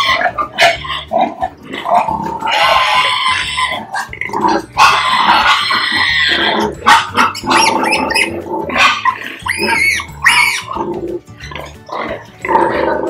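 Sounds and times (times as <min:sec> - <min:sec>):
pigs squealing and grunting: 0:00.0 - 0:13.0.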